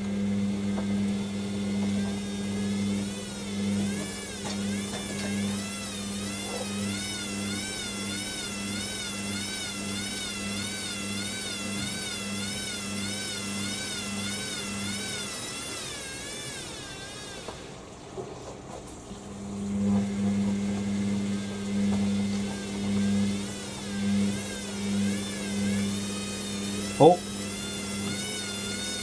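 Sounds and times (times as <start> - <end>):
washer drum motor whine: 0.0 - 29.0.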